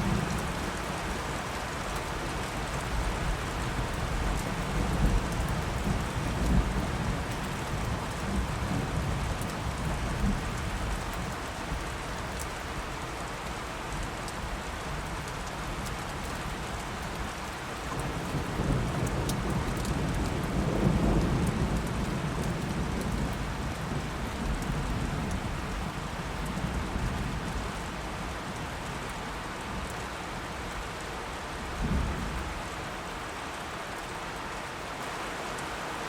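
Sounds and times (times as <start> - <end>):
raindrop patter: 0.0 - 36.0
steady rain falling: 0.0 - 36.0.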